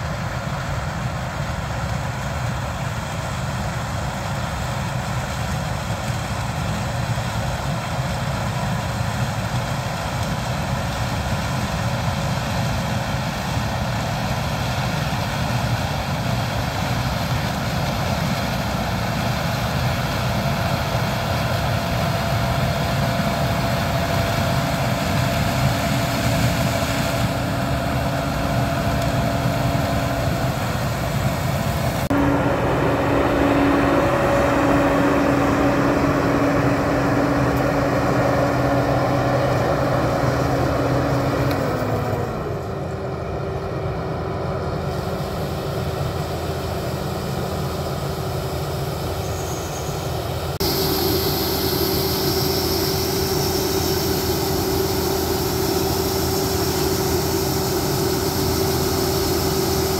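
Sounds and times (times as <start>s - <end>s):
diesel machinery running: 0.0s - 59.9s
steady hum: 0.0s - 59.9s.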